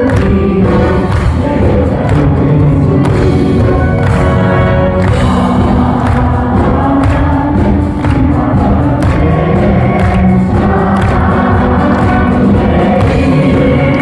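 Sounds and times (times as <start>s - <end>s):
loud amplified music with group singing: 0.0s - 14.0s.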